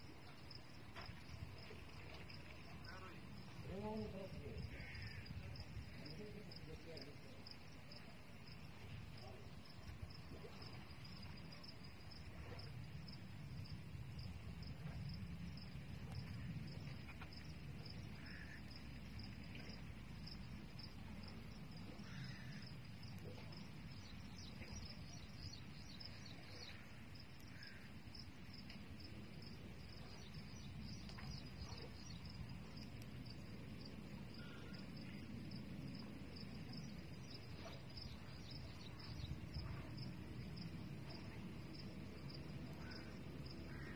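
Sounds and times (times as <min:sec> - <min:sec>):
insects trilling: 0:00.0 - 0:43.9
low background rumble: 0:00.0 - 0:43.9.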